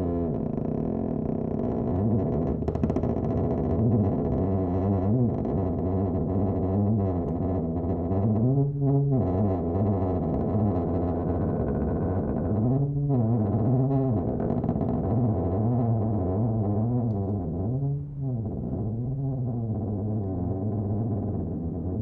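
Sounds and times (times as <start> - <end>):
wooden door creaking: 0.0 - 22.0.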